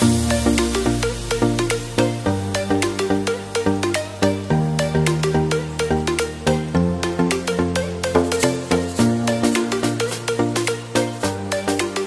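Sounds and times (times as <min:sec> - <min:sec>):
electronic music with synth and bass: 0:00.0 - 0:12.0.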